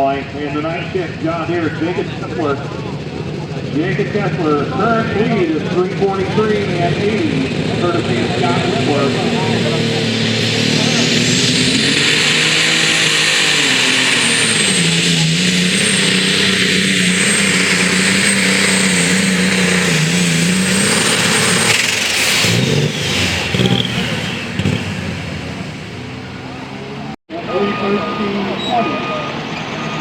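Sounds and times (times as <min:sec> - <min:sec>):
tractor engine under load: 0:00.0 - 0:30.0
turbo whine: 0:00.0 - 0:30.0.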